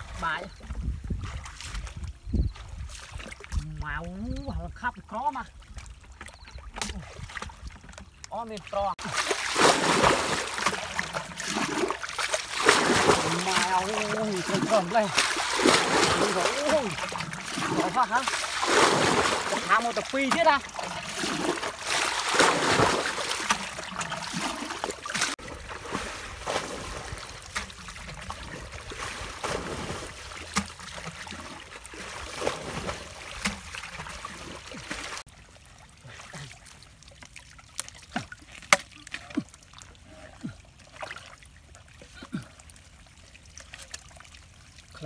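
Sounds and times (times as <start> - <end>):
splashing in muddy water: 0.0 - 45.0
wet squelches: 0.0 - 45.0.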